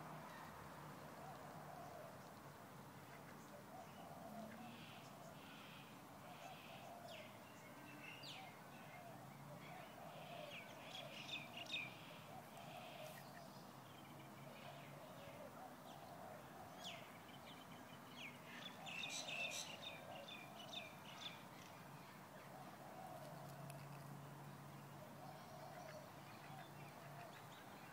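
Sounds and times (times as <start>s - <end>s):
faint outdoor background: 0.0s - 27.9s
small birds chirping faintly: 0.0s - 27.9s.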